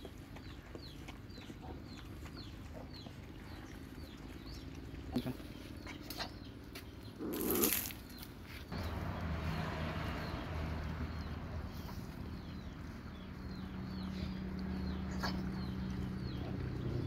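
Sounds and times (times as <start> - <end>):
dogs lapping and chewing: 0.0 - 17.0.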